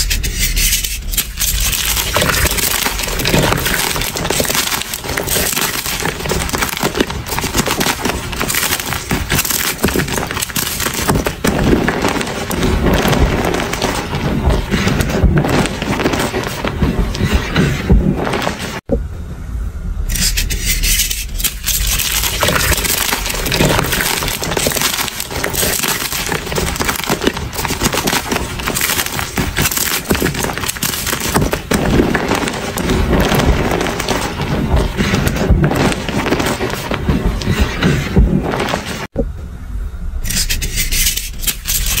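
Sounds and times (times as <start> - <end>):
chalk crushed by hand: 0.0 - 18.8, 20.2 - 39.1.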